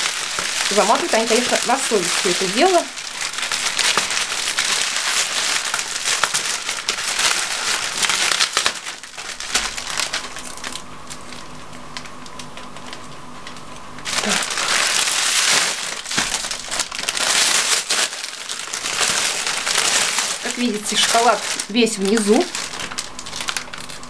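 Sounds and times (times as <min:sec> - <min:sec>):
foil wrapping crinkling: 0:00.0 - 0:24.0.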